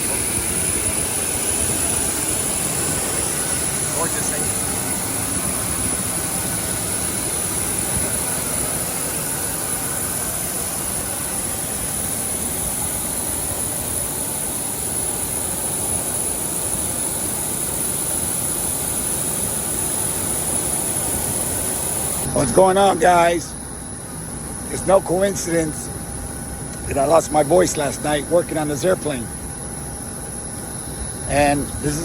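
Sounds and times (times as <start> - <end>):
aircraft turbine running: 0.0 - 32.0
high steady whine: 0.0 - 32.0.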